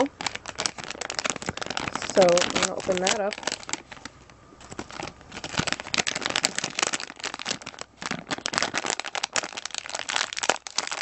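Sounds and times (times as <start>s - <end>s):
foil bag crinkling: 0.0s - 11.0s.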